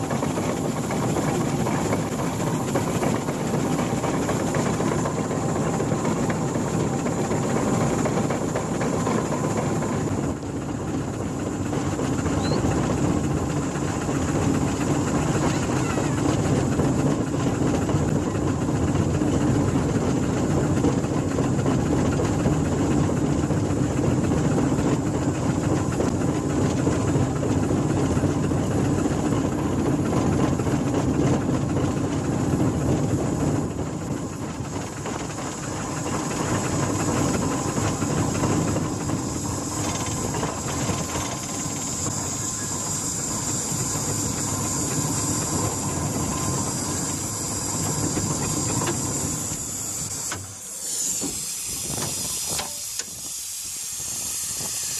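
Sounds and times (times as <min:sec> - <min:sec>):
steam engine hissing: 0:00.0 - 0:54.9.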